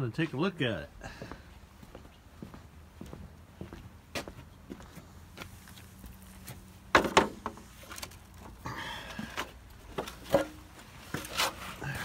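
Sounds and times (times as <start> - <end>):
footsteps outdoors: 0.0 - 12.0.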